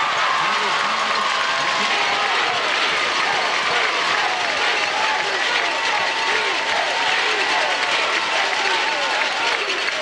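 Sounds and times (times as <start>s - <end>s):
crowd shouting and cheering: 0.0s - 10.0s.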